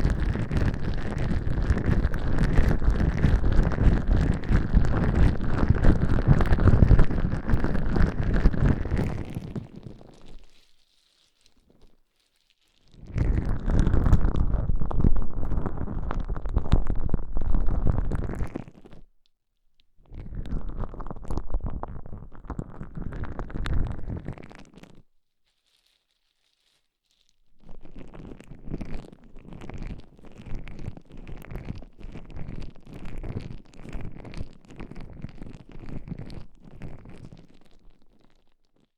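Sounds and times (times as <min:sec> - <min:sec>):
gloved hands rubbing oily microphone: 0:00.0 - 0:19.1, 0:20.0 - 0:38.9.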